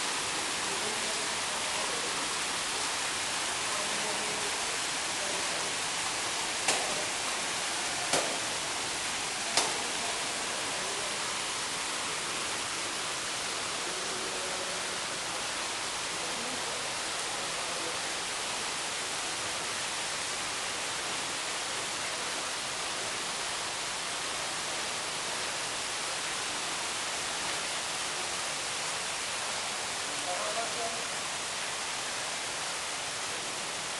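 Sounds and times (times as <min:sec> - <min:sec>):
water pouring from waterfall: 0:00.0 - 0:33.9.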